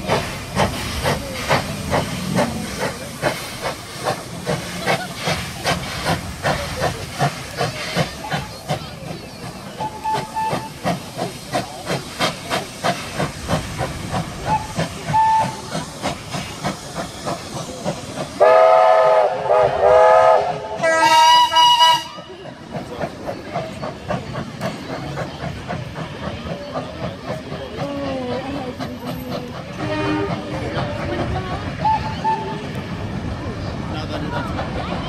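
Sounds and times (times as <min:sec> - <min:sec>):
steam locomotive chuffing: 0:00.0 - 0:35.0.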